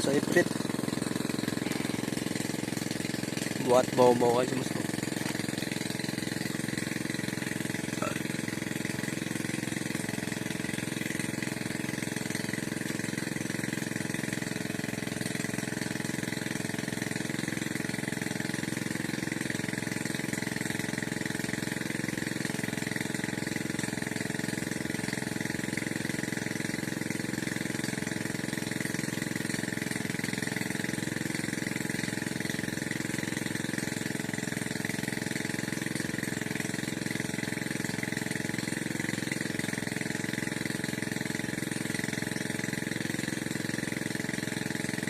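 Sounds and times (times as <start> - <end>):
water pump engine running: 0.0 - 45.0.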